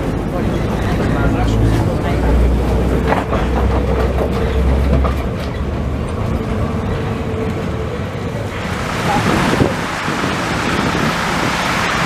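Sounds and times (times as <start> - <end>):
tram running hum: 0.0 - 12.0
tram wheels clicking over rail joints: 0.0 - 12.0.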